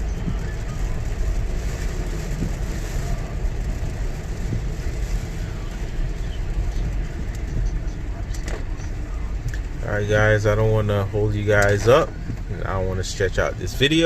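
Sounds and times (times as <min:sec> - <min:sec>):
car road noise rumble: 0:00.0 - 0:14.0
wet tyres and rain hiss: 0:00.0 - 0:14.0.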